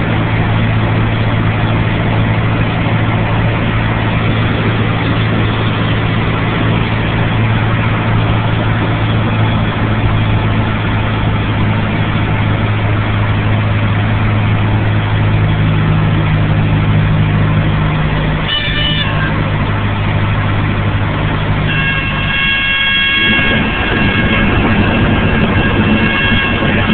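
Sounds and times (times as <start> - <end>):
light aircraft engine droning: 0.0 - 26.9
rush of noise: 0.0 - 26.9.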